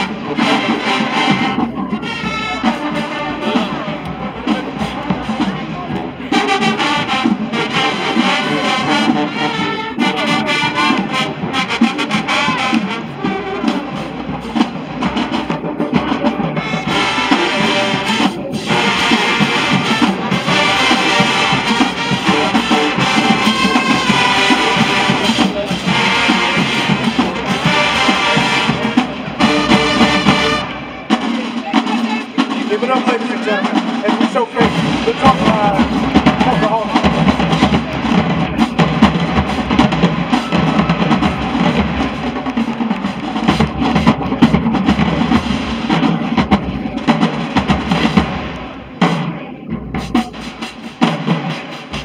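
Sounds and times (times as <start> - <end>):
brass section playing: 0.0 - 49.3
marching drums: 0.0 - 52.0.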